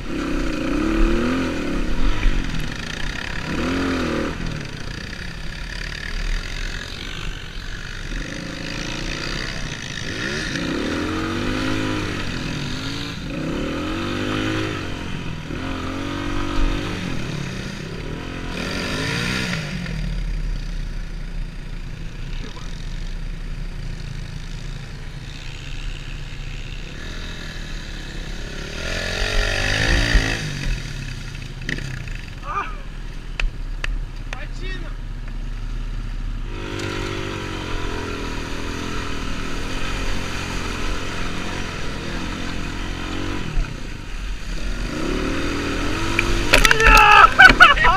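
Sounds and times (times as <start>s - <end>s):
dirt bike engine revving: 0.0s - 20.8s, 24.1s - 32.9s, 36.4s - 47.9s.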